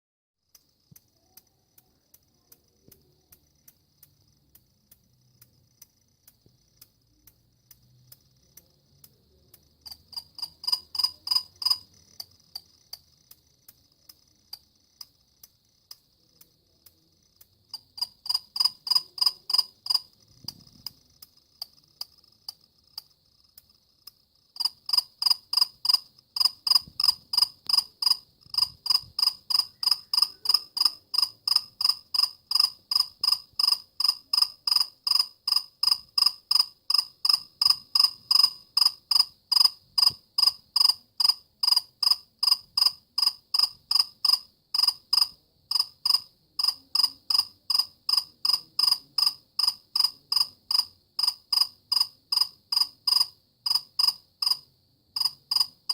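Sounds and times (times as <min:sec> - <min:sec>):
cricket chirping: 0:00.4 - 0:55.9.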